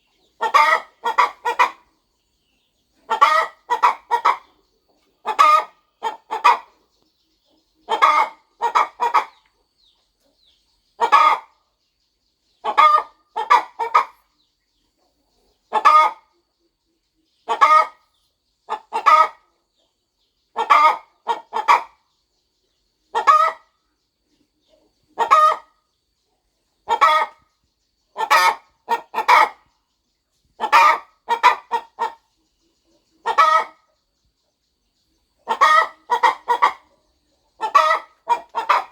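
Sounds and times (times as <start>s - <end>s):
hen clucking: 0.0s - 11.8s, 12.5s - 38.9s.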